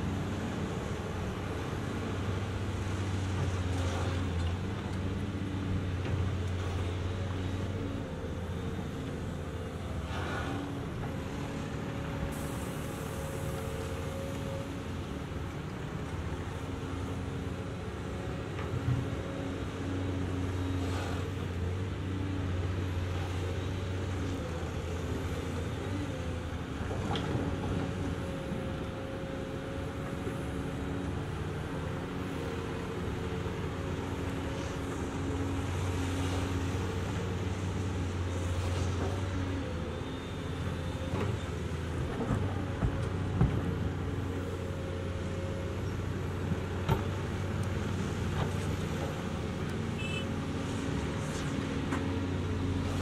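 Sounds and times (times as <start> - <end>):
excavator diesel engines under load: 0.0 - 53.0.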